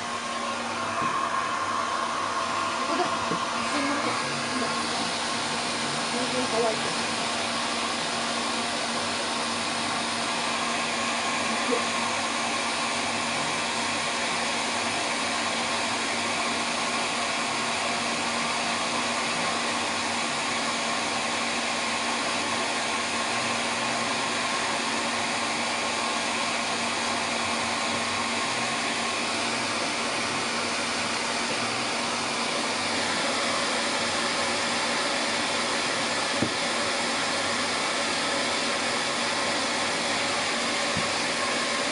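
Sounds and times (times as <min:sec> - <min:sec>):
hair dryer blowing: 0:00.0 - 0:41.9.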